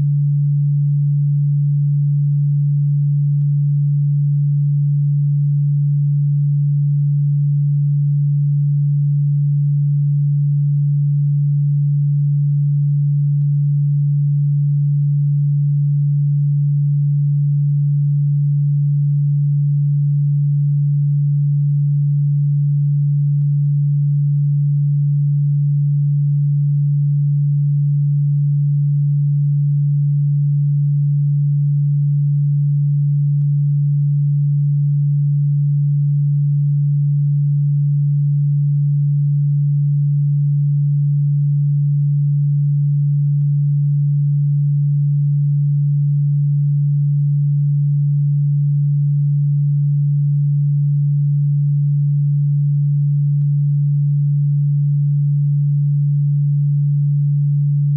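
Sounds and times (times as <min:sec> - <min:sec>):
low steady pure tone: 0:00.0 - 0:57.9.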